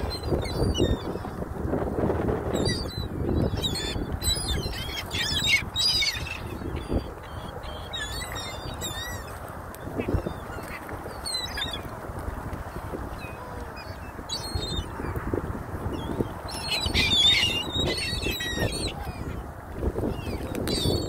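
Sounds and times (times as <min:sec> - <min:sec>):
gulls calling: 0:02.5 - 0:21.0.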